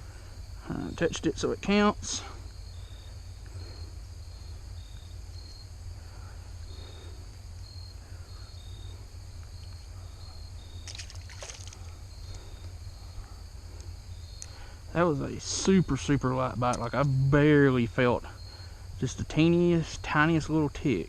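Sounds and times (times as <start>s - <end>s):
insects chirping: 0.0s - 21.0s
low outdoor rumble: 0.0s - 21.0s.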